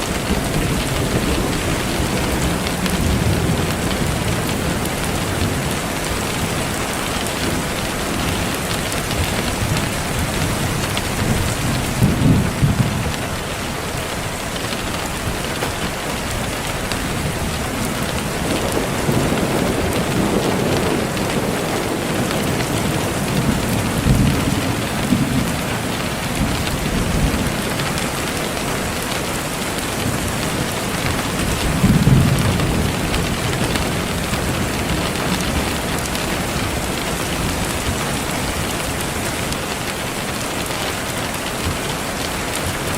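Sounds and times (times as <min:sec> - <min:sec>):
rain hiss: 0:00.0 - 0:42.9.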